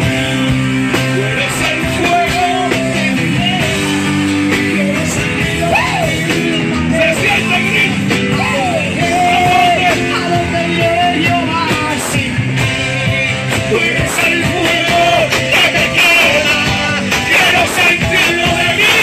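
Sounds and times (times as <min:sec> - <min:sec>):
amplified worship music: 0:00.0 - 0:19.0
person singing into a microphone: 0:00.0 - 0:19.0.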